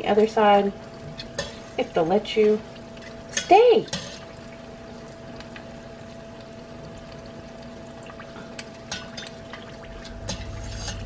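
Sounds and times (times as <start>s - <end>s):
deep-frying bubbling sizzle: 0.0s - 11.0s.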